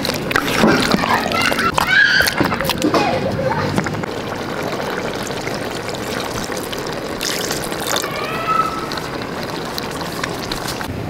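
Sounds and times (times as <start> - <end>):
water pouring into a pot: 0.0 - 10.9.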